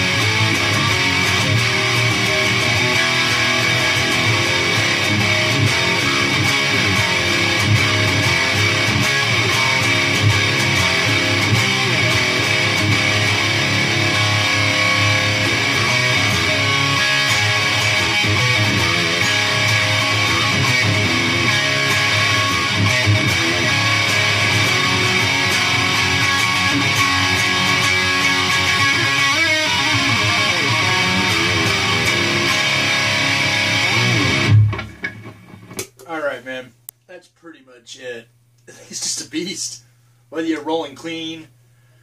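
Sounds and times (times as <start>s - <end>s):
electric guitar through amp: 0.0s - 36.0s.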